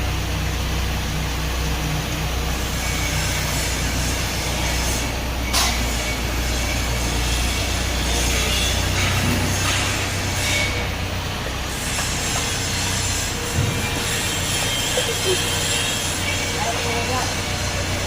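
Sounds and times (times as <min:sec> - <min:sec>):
wood chipper running: 0:00.0 - 0:18.0.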